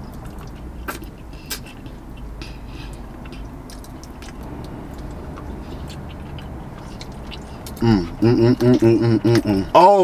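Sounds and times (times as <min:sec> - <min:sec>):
lip smacks: 0:00.0 - 0:09.6
person chewing food: 0:00.0 - 0:09.7
low steady hum: 0:00.0 - 0:10.0
finger licking: 0:00.1 - 0:09.7.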